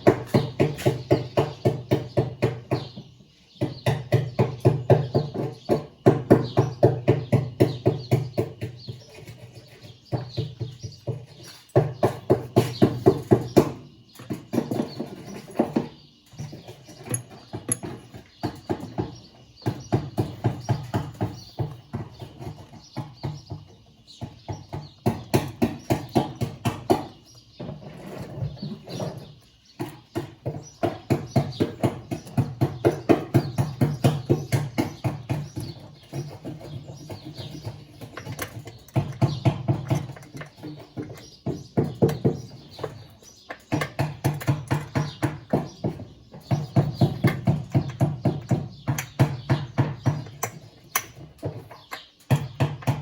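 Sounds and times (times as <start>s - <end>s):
rapid repeated knocking: 0.0s - 15.9s, 17.0s - 27.2s, 29.8s - 53.0s.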